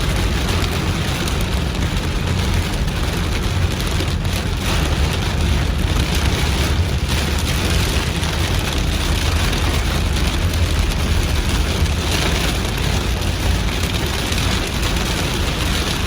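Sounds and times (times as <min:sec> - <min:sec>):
low road rumble: 0:00.0 - 0:16.0
rain falling on a car: 0:00.0 - 0:16.0.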